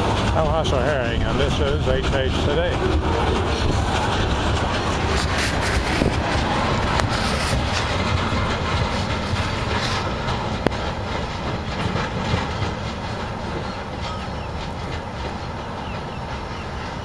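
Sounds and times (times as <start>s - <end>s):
freight train wheels rolling on rails: 0.0s - 17.0s.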